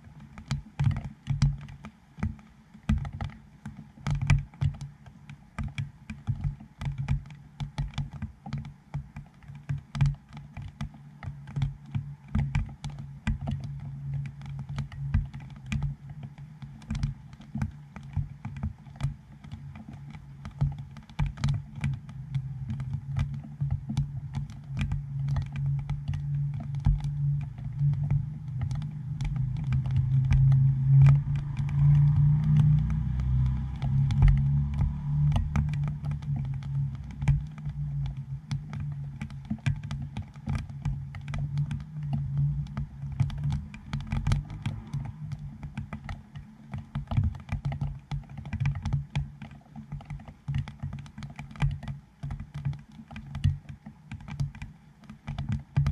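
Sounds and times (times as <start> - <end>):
low steady hum: 0.0 - 55.9
raindrops tapping on camera housing: 0.0 - 55.9.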